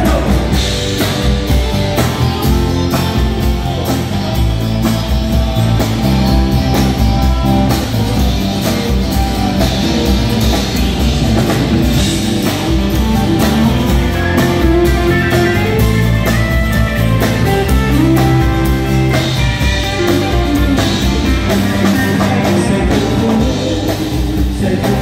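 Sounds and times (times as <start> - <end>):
bass guitar: 0.0 - 25.0
drum kit steady beat: 0.0 - 25.0
electric guitar: 0.0 - 25.0.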